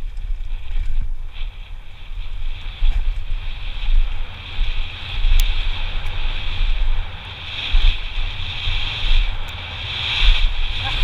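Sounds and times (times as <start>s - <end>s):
tyre and trail hiss: 0.0s - 11.0s
wind buffeting microphone: 0.0s - 11.0s.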